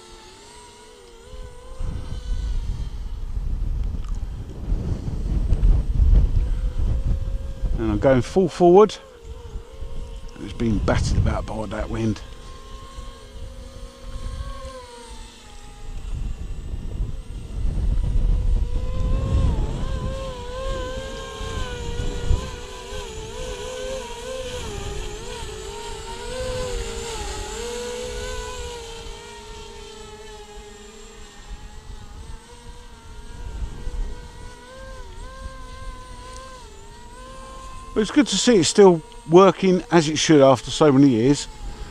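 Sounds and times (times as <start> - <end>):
model aircraft propellers whining: 0.0 - 41.9
wind rumbling on microphone: 1.2 - 41.9.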